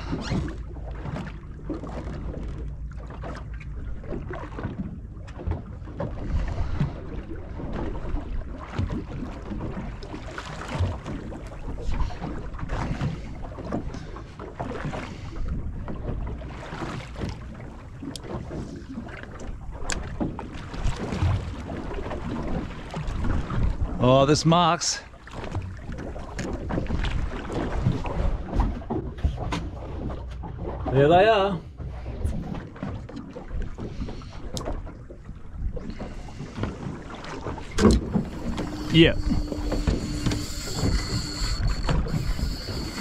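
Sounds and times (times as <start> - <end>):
water lapping against hull: 0.0 - 43.0.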